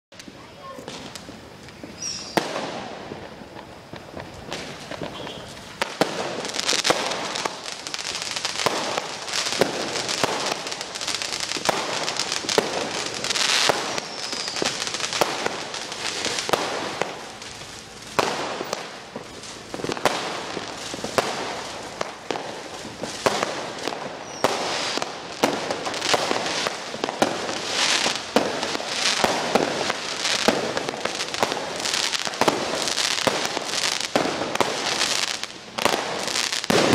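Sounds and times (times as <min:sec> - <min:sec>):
fireworks bangs and crackles: 0:00.2 - 0:36.9
firework whistles: 0:00.8 - 0:36.9.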